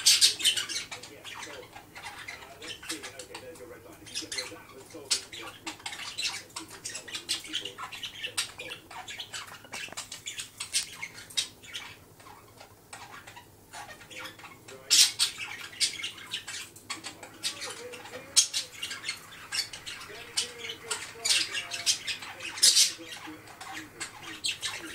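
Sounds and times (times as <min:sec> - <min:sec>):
budgerigar chattering: 0:00.0 - 0:24.9.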